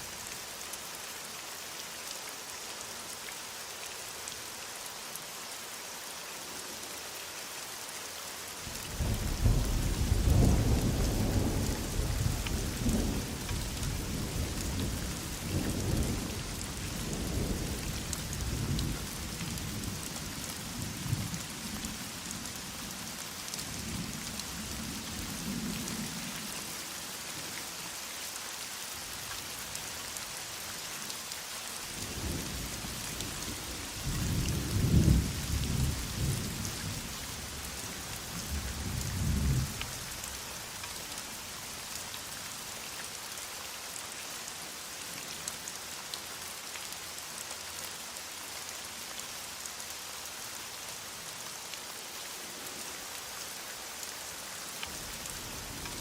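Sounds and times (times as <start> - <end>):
heavy rain hissing: 0.0 - 56.0.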